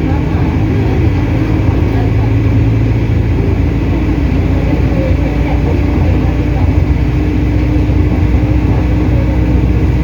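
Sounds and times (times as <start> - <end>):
bus engine rumble: 0.0 - 10.0
road noise: 0.0 - 10.0.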